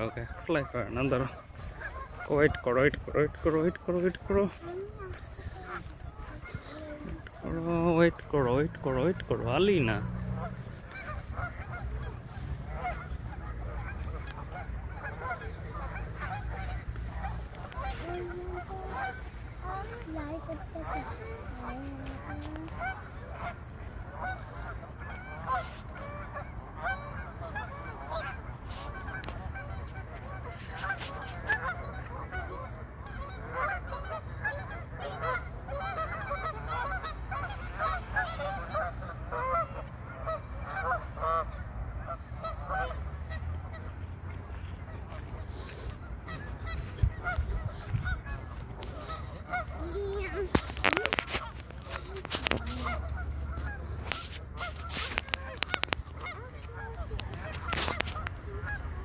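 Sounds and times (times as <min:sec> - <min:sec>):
geese honking: 0:00.0 - 0:59.0.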